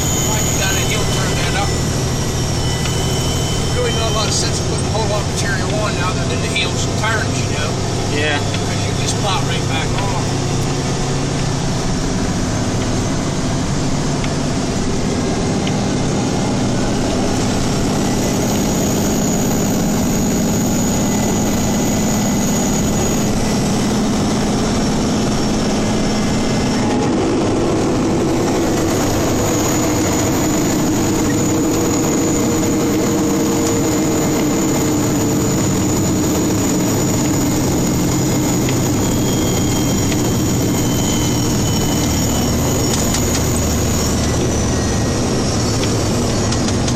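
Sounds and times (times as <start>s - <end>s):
road noise: 0.0s - 46.9s
truck engine hum: 0.0s - 46.9s.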